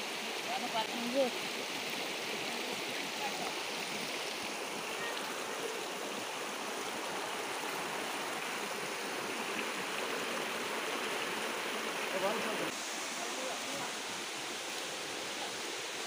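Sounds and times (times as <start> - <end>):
stream rushing over waterfall: 0.0 - 16.0.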